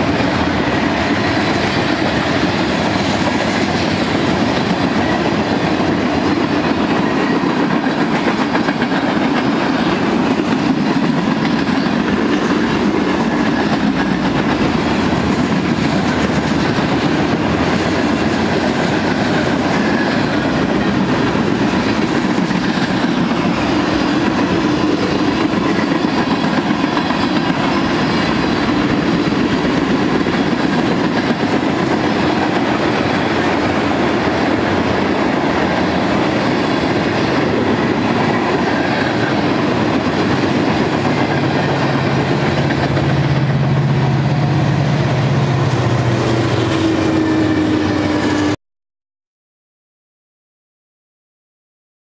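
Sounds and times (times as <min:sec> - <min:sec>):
freight train cars rolling: 0:00.0 - 0:48.6.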